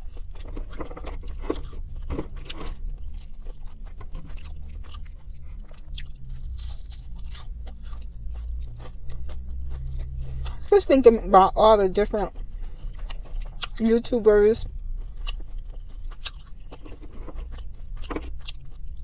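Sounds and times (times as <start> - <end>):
crisp crunching chewing: 0.0 - 10.7, 12.2 - 13.9, 14.7 - 19.0
wet chewing: 0.0 - 10.7, 12.1 - 19.0
low steady hum: 0.0 - 19.0.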